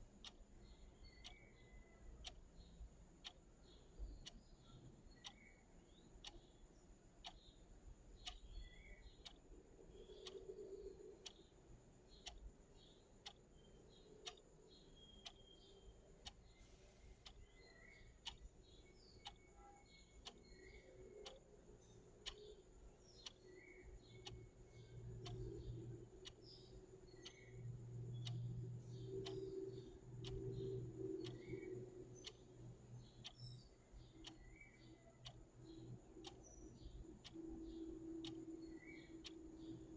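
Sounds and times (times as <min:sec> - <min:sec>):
clock ticking faintly: 0:00.0 - 0:39.9
small bird chirps: 0:00.2 - 0:39.9.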